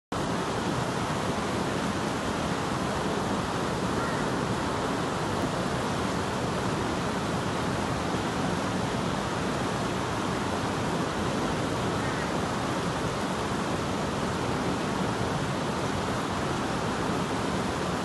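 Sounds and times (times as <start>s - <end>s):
stream flowing over rocks: 0.2s - 18.0s.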